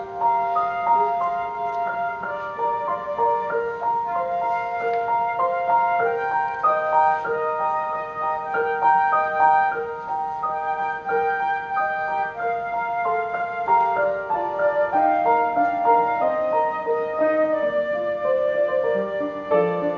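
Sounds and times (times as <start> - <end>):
flute-like lead melody: 0.0 - 19.9
keyboard: 0.0 - 19.9.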